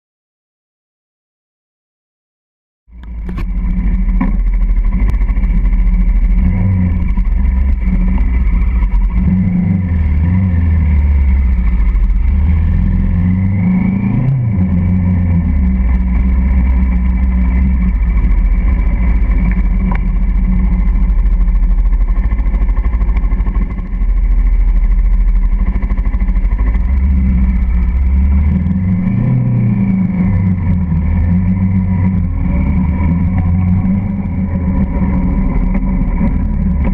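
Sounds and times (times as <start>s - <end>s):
motorcycle engine accelerating: 2.9s - 36.9s.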